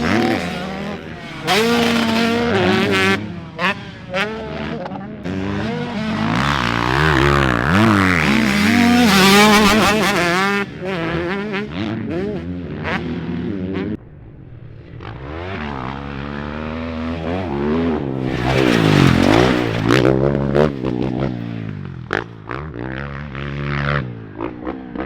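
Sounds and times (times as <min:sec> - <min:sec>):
dirt bike engine revving: 0:00.0 - 0:14.0, 0:14.8 - 0:25.0.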